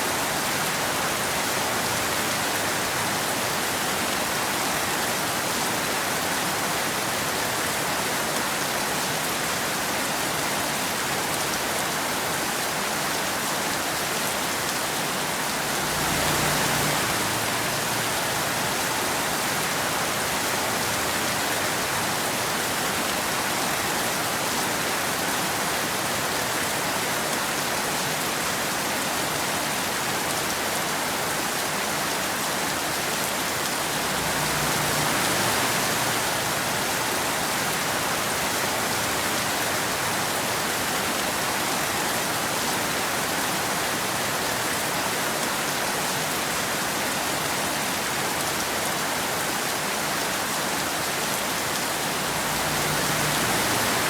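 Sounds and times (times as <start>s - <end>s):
rain falling on road: 0.0s - 54.0s.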